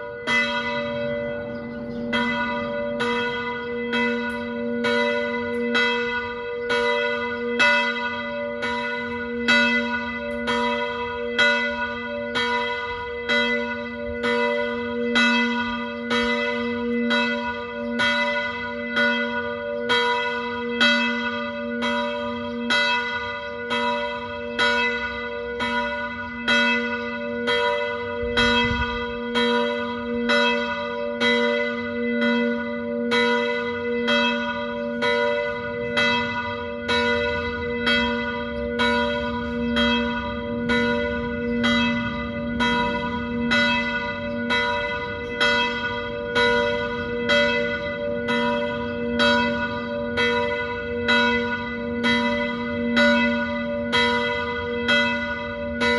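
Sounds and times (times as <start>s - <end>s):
church bell ringing: 0.0s - 55.9s.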